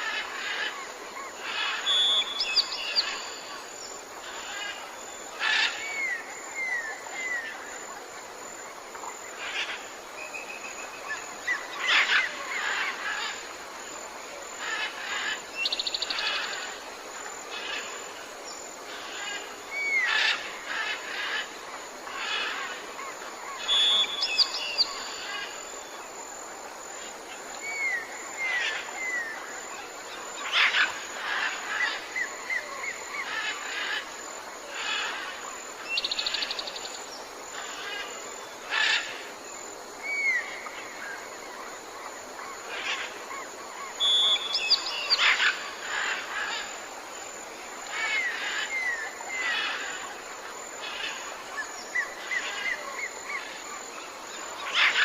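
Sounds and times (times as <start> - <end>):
high-pitched hiss: 0.0 - 55.0.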